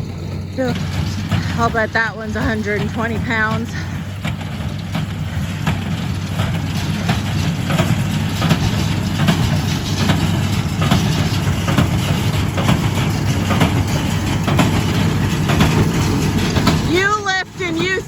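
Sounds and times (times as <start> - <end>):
hay baler knocking: 0.0 - 18.0
tractor engine hum: 0.0 - 18.0.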